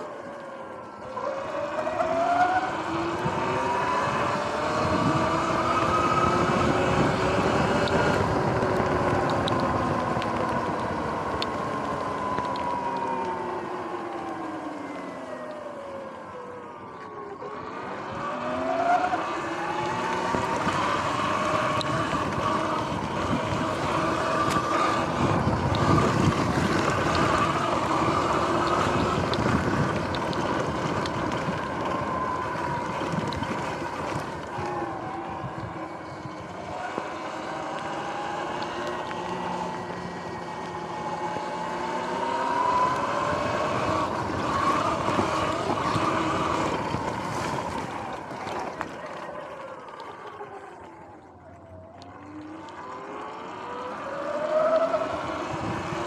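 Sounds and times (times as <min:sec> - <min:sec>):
electric motor whining: 0:00.0 - 0:56.0
wind over microphone: 0:02.2 - 0:15.9, 0:16.6 - 0:52.4, 0:53.4 - 0:56.0.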